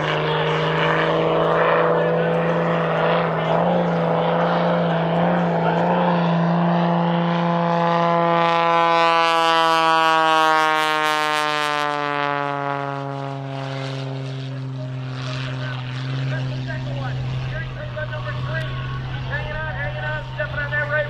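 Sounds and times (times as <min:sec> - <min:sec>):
biplane engine passing low: 0:00.0 - 0:21.0.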